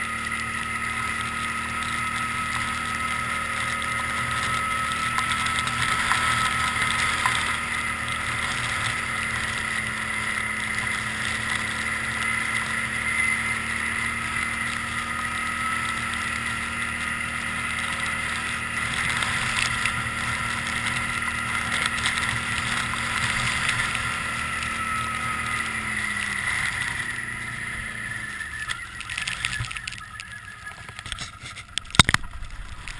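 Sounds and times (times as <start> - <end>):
atv engine whining: 0.0 - 32.9.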